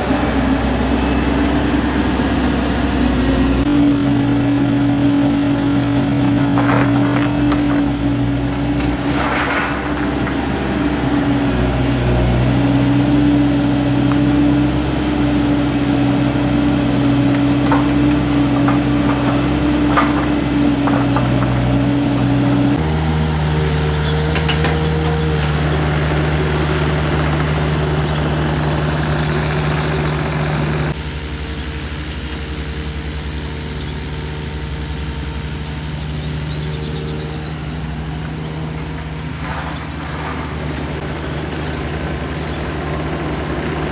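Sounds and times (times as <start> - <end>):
diesel engines running: 0.0 - 43.9
excavator digging soil: 0.0 - 43.9.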